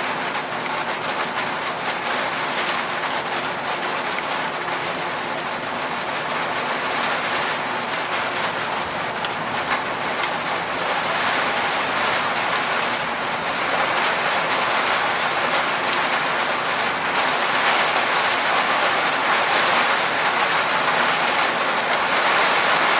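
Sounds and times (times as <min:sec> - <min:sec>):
rain on a metal roof: 0:00.0 - 0:22.9.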